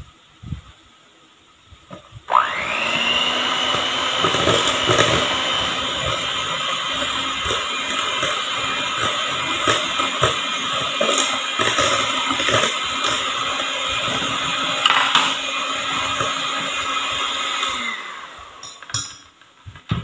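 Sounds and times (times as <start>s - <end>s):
electric hand mixer whirring: 2.3s - 19.0s.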